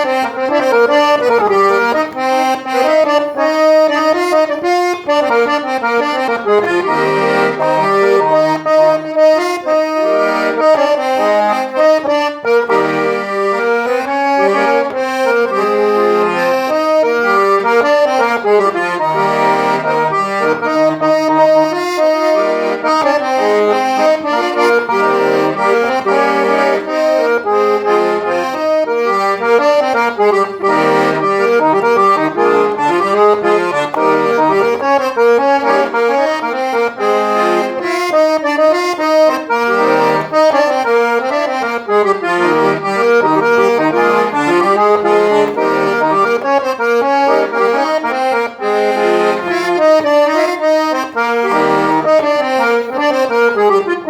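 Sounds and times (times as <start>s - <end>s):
accordion playing a folk tune: 0.0s - 54.0s.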